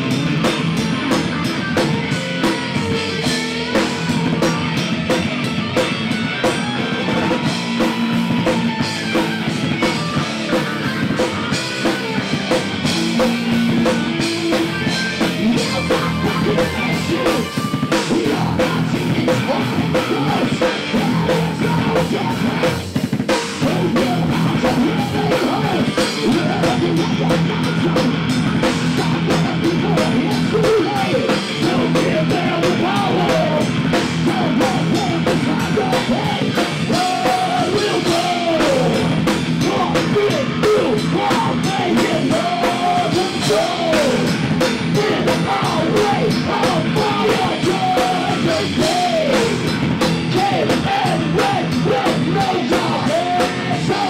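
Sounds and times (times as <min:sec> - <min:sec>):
drum kit: 0:00.0 - 0:54.0
electric guitars: 0:00.0 - 0:54.0
man singing: 0:07.0 - 0:22.8, 0:23.5 - 0:54.0.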